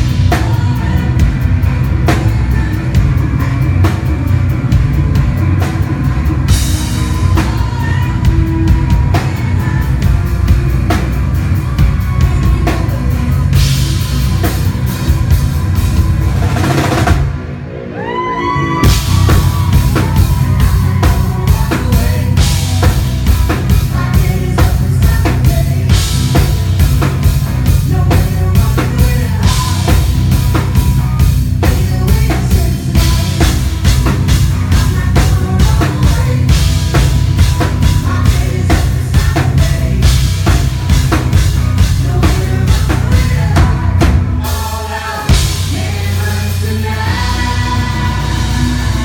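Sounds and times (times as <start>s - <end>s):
drum kit beat: 0.0s - 17.5s, 18.4s - 49.0s
live band playing: 0.0s - 49.0s.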